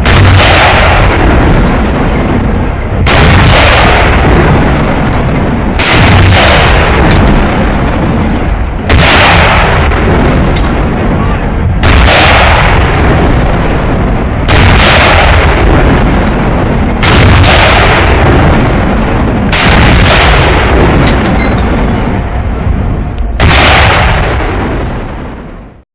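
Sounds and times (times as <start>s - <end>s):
artillery guns firing: 0.0s - 25.8s.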